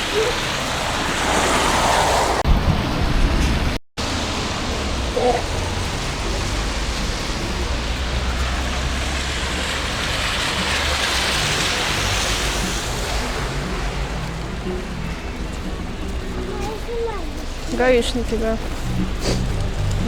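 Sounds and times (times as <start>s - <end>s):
road traffic rushing past: 0.0s - 20.0s.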